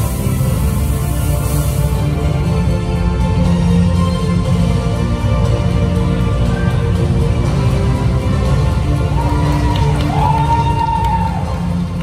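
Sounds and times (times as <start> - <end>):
music with heavy bass: 0.0 - 12.0.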